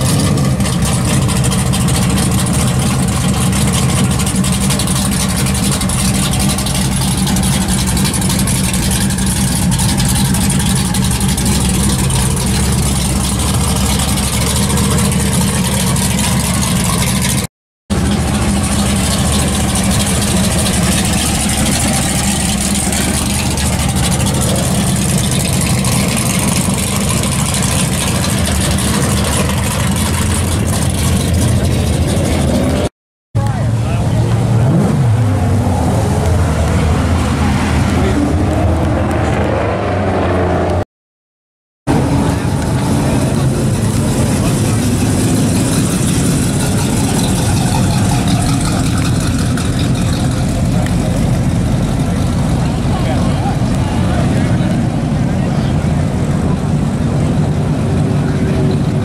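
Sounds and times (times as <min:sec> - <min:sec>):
car engine idling: 0:00.0 - 0:39.2, 0:41.9 - 0:59.0.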